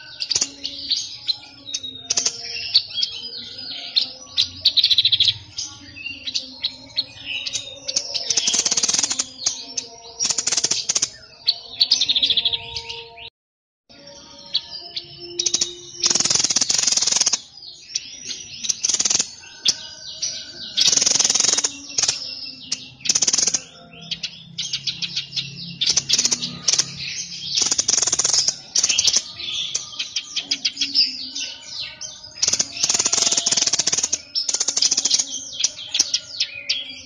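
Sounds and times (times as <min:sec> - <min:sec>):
songbird chirping and trilling: 0:00.0 - 0:13.3, 0:13.9 - 0:37.0.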